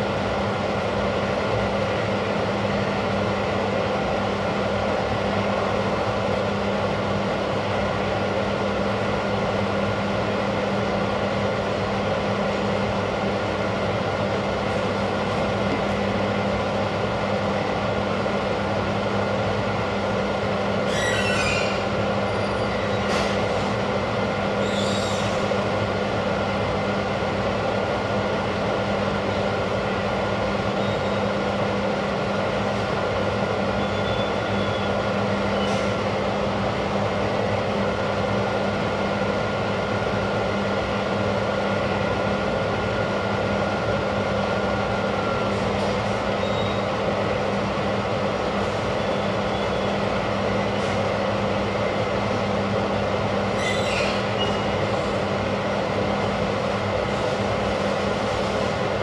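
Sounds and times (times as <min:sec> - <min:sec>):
machine hum and hiss: 0:00.0 - 0:59.0.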